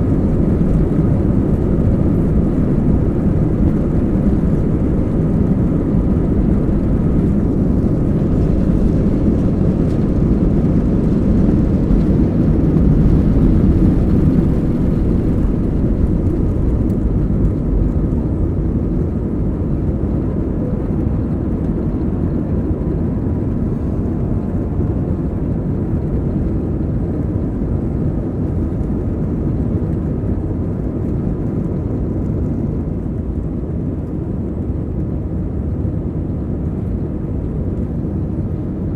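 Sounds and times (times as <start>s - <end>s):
jet engines heard from cabin: 0.0s - 38.9s.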